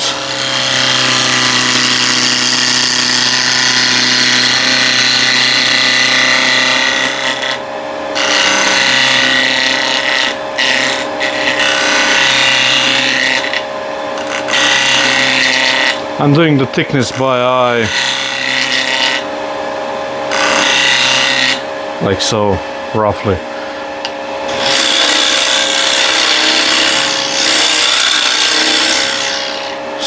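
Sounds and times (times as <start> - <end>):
lathe humming: 0.0 - 30.0.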